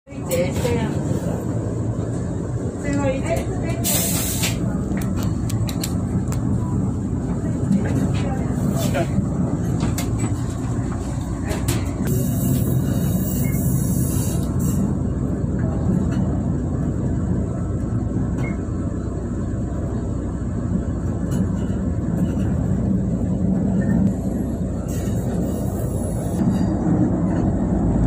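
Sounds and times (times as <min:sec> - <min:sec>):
train rumble: 0:00.1 - 0:28.0.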